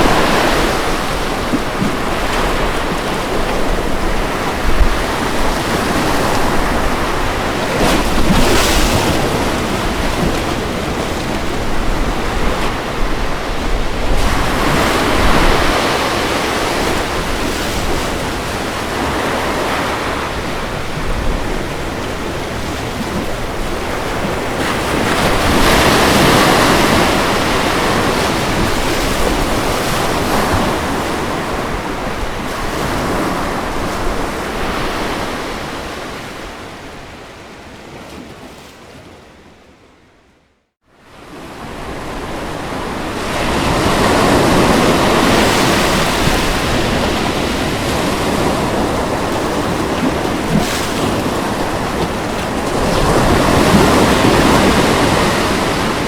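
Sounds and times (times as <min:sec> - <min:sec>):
ocean surf rushing: 0:00.0 - 0:36.6, 0:41.3 - 0:56.0.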